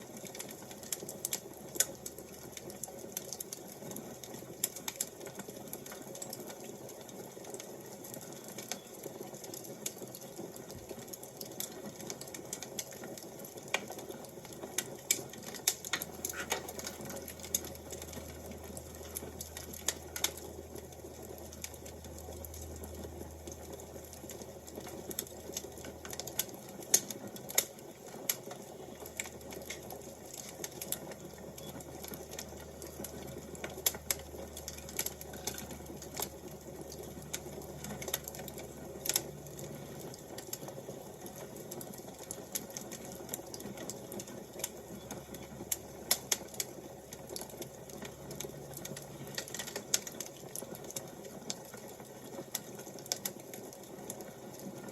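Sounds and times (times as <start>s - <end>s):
fire crackling and popping: 0.0s - 54.9s
soft steady hiss: 0.0s - 54.9s.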